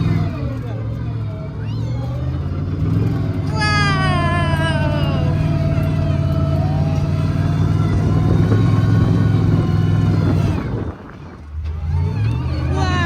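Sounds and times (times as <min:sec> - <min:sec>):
truck engine low drone: 0:00.0 - 0:13.0.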